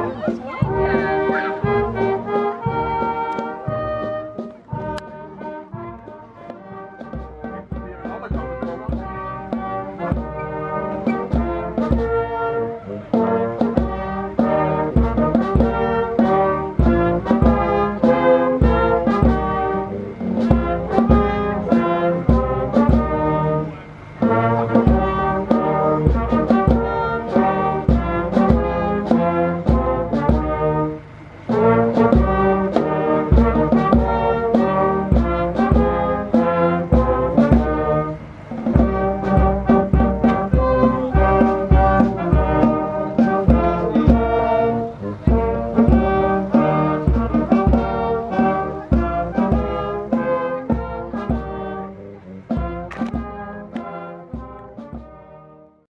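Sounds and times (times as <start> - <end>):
brass band music: 0.0 - 55.9.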